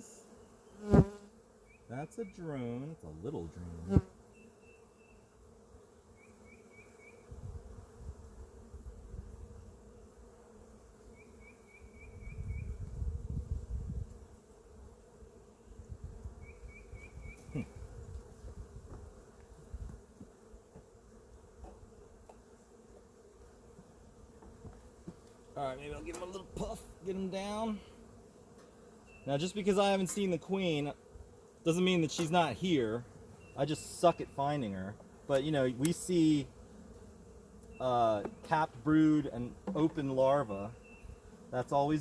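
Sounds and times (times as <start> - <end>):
bees buzzing: 0.0 - 42.0.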